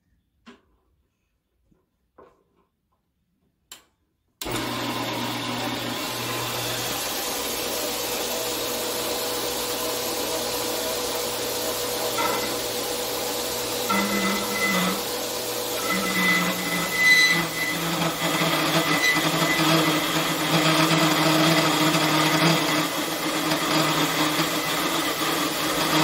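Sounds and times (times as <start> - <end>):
bandsaw cutting metal: 4.4 - 26.0.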